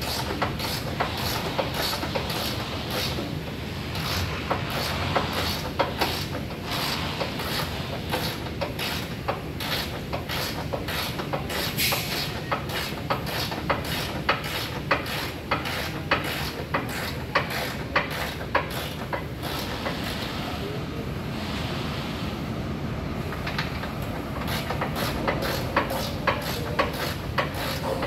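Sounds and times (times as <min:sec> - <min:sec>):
ratchet wrench clicking: 0:00.0 - 0:03.3, 0:04.0 - 0:20.0, 0:23.3 - 0:28.0.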